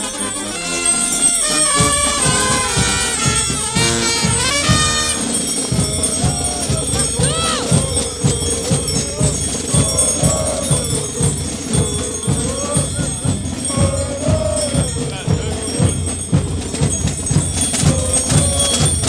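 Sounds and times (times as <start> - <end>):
belt bells jingling: 0.0 - 19.0
brass band playing dance tune: 0.0 - 19.0
steady drum beat: 0.9 - 19.0.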